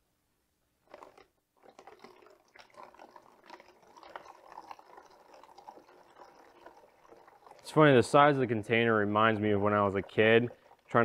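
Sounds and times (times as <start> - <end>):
water trickling and splashing: 0.9 - 11.0.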